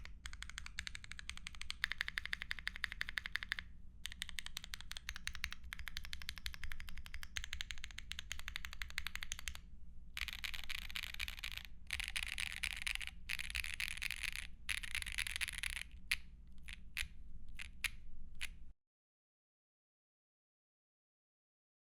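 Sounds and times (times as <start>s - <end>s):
fast keyboard typing: 0.0s - 9.6s, 10.2s - 18.5s.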